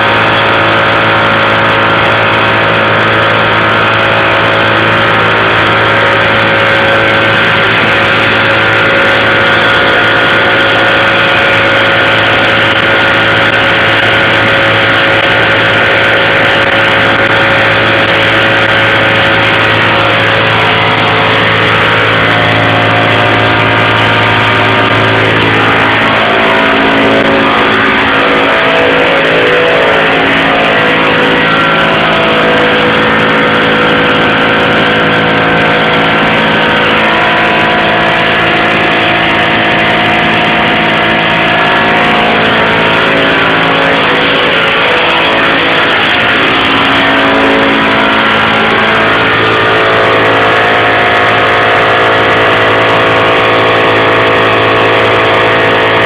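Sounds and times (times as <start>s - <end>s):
air compressor running: 0.0s - 56.0s.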